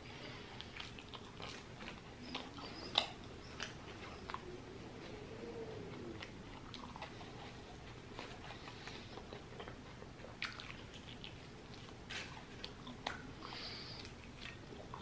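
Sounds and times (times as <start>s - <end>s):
person chewing sandwich: 0.0s - 15.0s.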